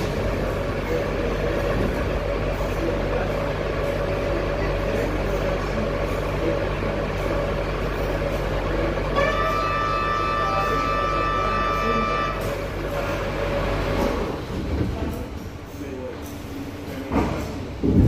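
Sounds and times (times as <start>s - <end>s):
subway train rumble and rattle: 0.0s - 18.0s.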